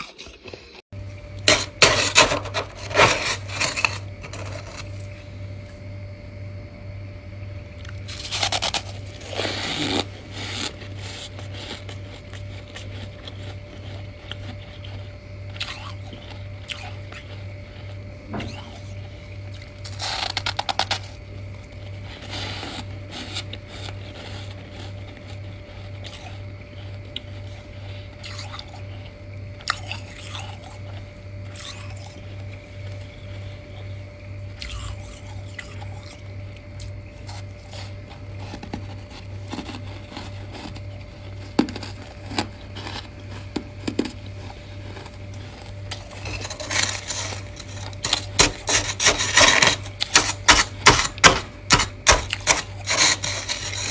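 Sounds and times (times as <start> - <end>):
chewing frost crunches: 7.7 - 53.9.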